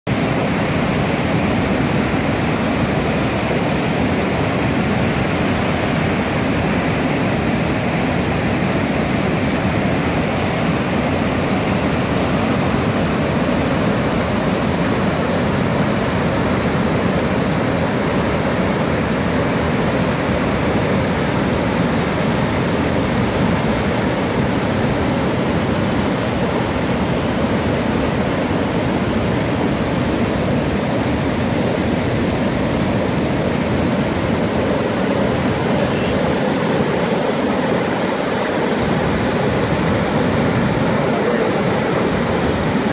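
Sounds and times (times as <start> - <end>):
rushing whitewater rapids: 0.1 - 42.9.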